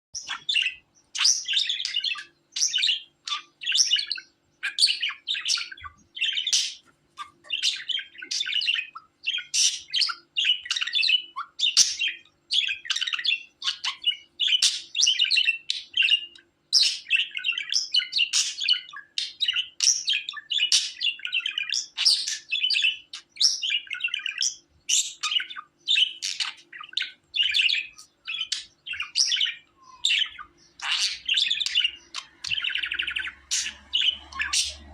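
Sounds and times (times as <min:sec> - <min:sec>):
budgerigar chirping and warbling: 0:00.2 - 0:34.9.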